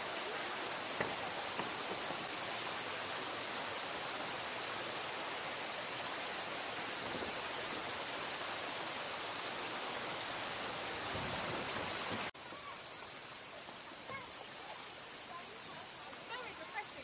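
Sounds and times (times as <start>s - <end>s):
water rushing over a weir: 0.0s - 17.0s.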